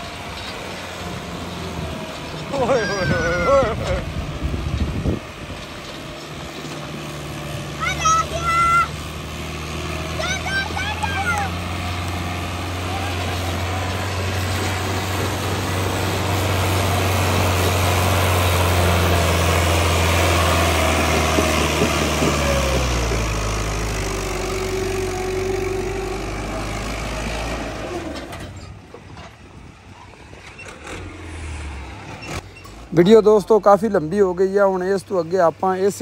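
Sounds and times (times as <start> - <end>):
tractor engine running under load: 0.0 - 36.0.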